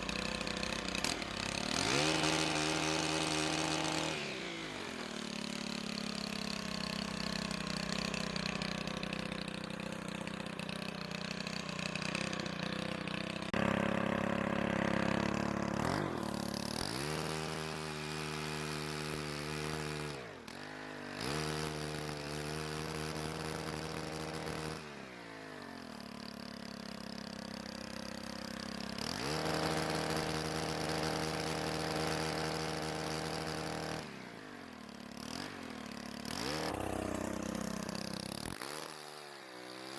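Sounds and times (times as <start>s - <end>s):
pole chainsaw engine revving: 0.0s - 39.9s.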